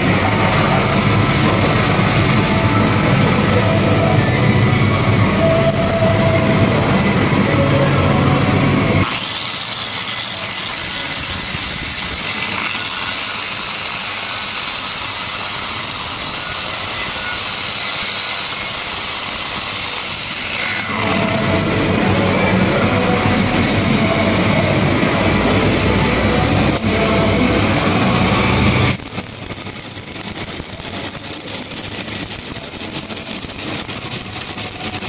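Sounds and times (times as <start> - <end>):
low mechanical rumble: 0.0 - 9.1, 9.7 - 35.0
angle grinder whining: 0.0 - 35.0.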